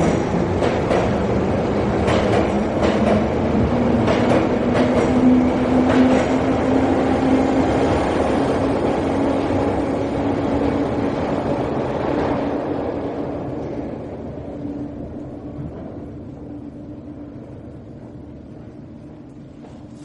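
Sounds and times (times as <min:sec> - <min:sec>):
train rumbling slowly: 0:00.0 - 0:20.0.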